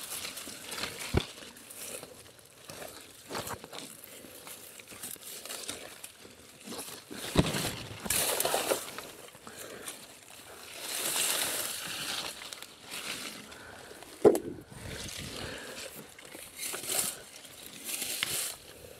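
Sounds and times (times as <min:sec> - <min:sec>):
bushes rustling: 0:00.0 - 0:18.9.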